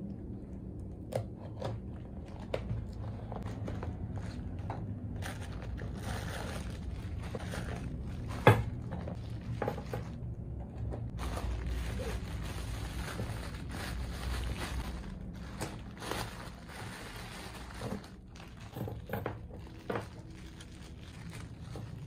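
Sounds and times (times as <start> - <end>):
plastic wrap crinkling: 2.8 - 10.4, 11.1 - 22.0.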